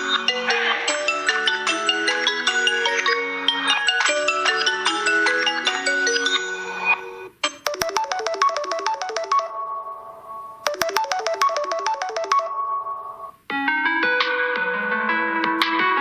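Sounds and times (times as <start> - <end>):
different ringtone: 0.0 - 13.4
phone ringtone bright notes: 0.0 - 13.4.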